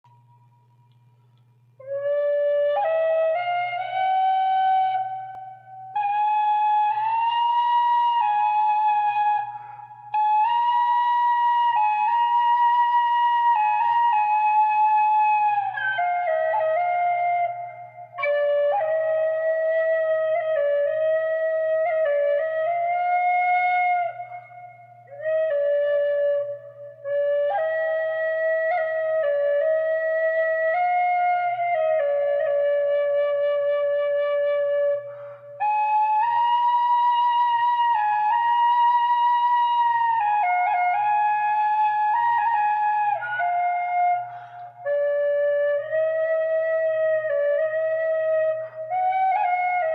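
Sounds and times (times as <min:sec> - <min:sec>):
solo flute melody: 0:01.7 - 0:49.9.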